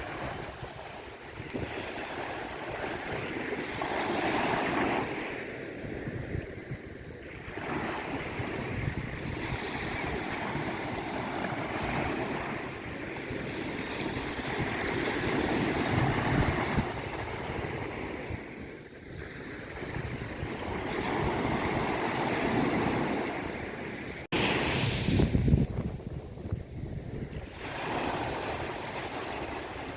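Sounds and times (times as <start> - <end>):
sea waves surging: 0.0 - 29.9.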